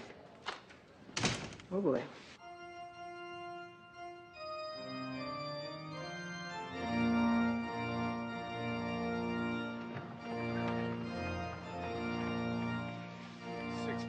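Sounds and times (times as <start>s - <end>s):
pipe organ playing slow chords: 2.4s - 14.0s.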